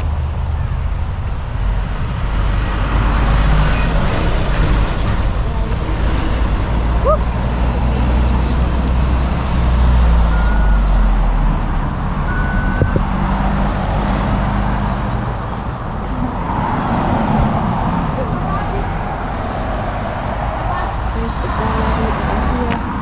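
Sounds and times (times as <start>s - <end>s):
heavy engine rumble: 0.0s - 23.0s
vehicles passing: 0.0s - 23.0s.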